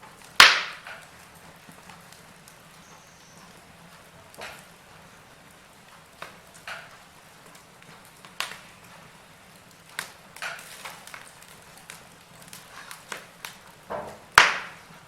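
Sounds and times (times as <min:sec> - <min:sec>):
fire hissing: 0:00.0 - 0:15.0
logs crackling and popping: 0:00.0 - 0:15.0.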